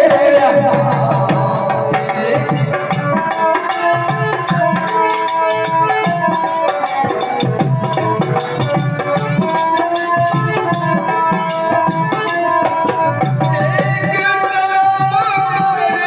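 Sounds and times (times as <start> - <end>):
fast percussion beat: 0.0 - 16.0.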